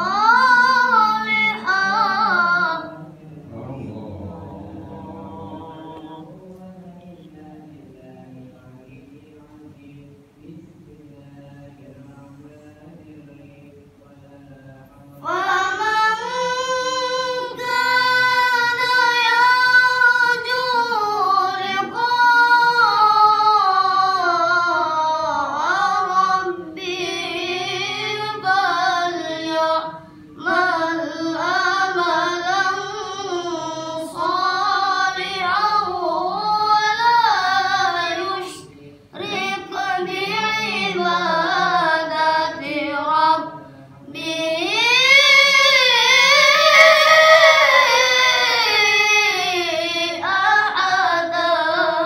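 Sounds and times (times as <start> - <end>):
child reciting melodically: 0.0 - 6.5, 15.1 - 52.0.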